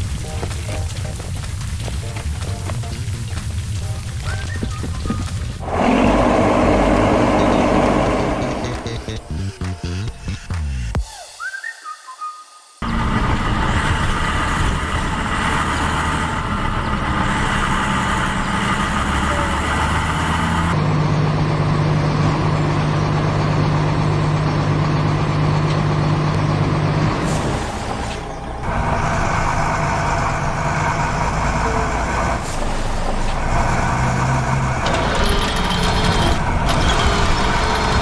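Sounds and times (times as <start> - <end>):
heavy truck engine running: 0.0 - 11.0, 12.8 - 38.0.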